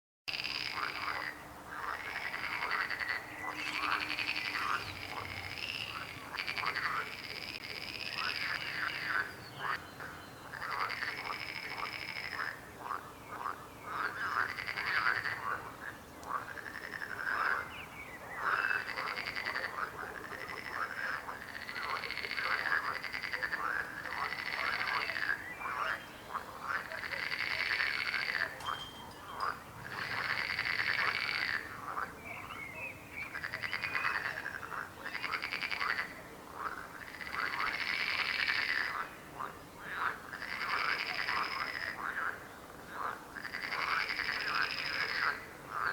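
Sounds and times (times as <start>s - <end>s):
frogs croaking: 0.3s - 45.9s.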